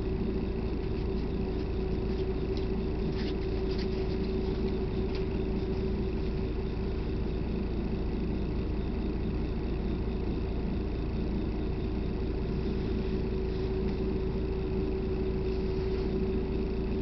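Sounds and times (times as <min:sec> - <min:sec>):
vehicle interior rumble: 0:00.0 - 0:17.0.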